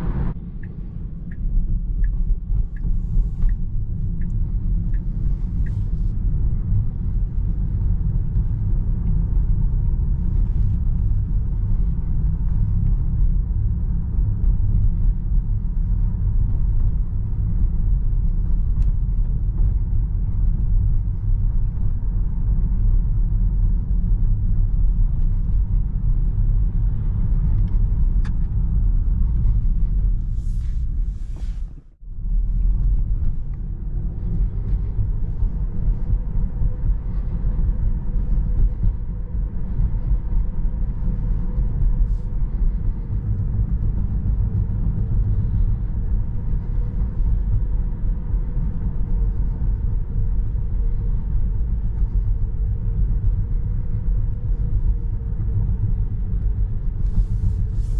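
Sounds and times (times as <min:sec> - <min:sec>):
road and tyre rumble in car: 0:00.0 - 0:57.9.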